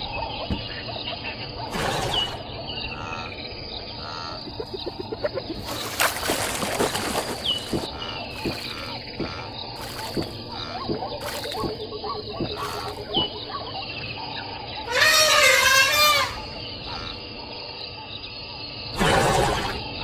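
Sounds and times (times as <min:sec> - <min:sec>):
bird chirps: 0:00.0 - 0:20.0
insects: 0:00.0 - 0:20.0.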